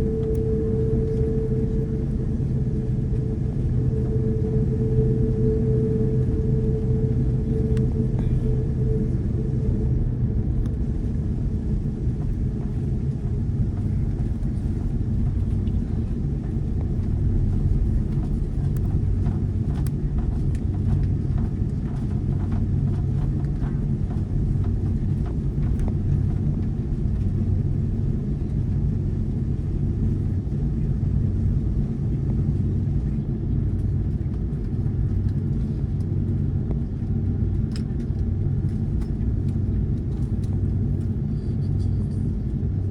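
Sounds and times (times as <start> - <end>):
airplane cabin drone: 0.0 - 42.9.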